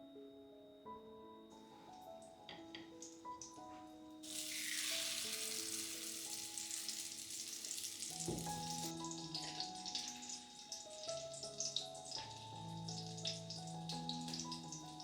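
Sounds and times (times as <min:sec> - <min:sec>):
food sizzling in a frying pan: 0:02.9 - 0:15.0.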